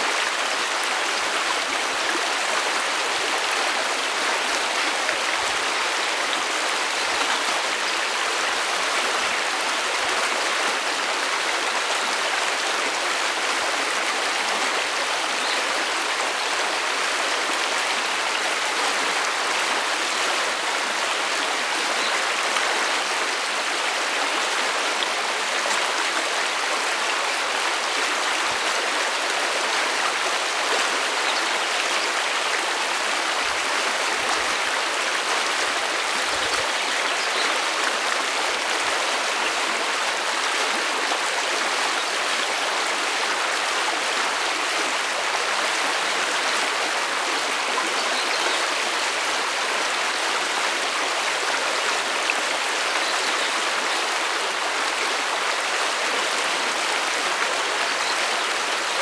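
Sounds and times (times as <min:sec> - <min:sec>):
stream rushing over stones: 0:00.0 - 0:59.0.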